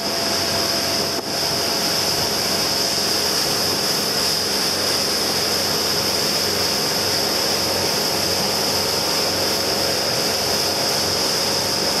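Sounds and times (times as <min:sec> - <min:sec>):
motorboat engine drone: 0:00.0 - 0:12.0
water rushing in wake: 0:00.0 - 0:12.0.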